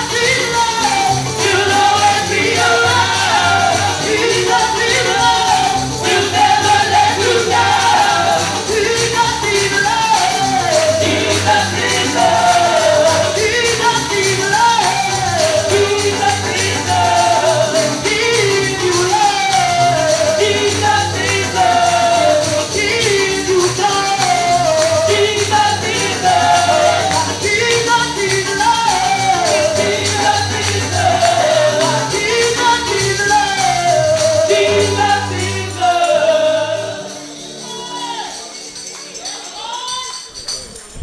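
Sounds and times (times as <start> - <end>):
people singing: 0.0 - 38.6
band playing upbeat rhythm: 0.0 - 39.9
tambourine: 0.0 - 41.0.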